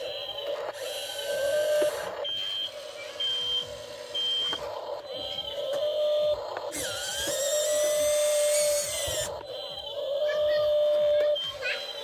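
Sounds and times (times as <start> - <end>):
gears buzzing: 0.0 - 12.0
toy electric motors whining: 0.0 - 12.0.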